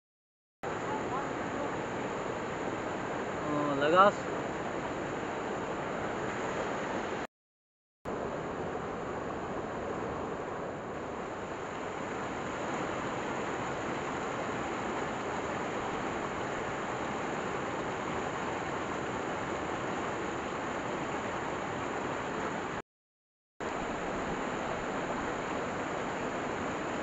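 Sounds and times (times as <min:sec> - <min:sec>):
stream rushing over rocks: 0:00.6 - 0:07.3, 0:08.1 - 0:22.8, 0:23.6 - 0:27.0.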